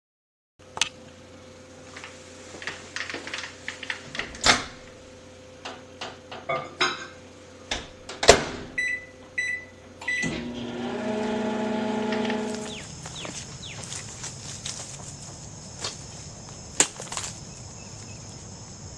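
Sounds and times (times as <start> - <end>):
steady hum: 0.6 - 18.9.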